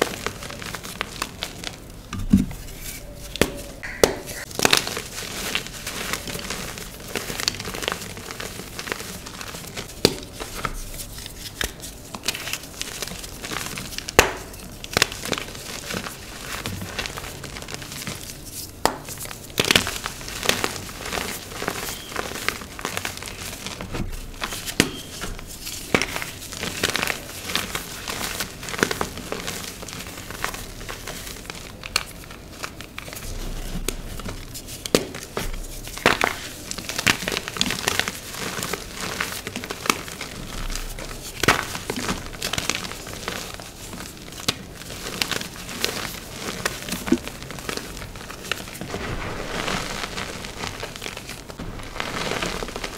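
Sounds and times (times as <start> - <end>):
sharp chalk cracks: 0.0 - 17.1, 18.0 - 52.9
chalk crunching and crackling: 0.0 - 52.9.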